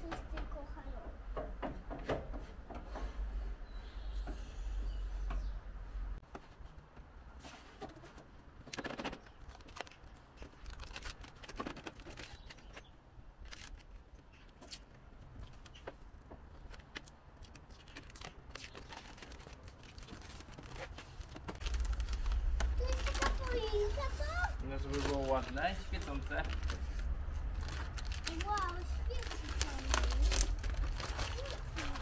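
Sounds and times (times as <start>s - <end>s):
rustling: 5.8s - 32.0s.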